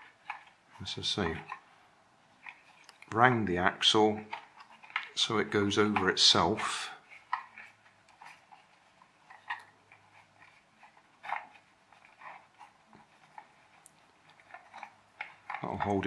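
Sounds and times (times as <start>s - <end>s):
handling clicks and rustles: 0.0s - 16.0s.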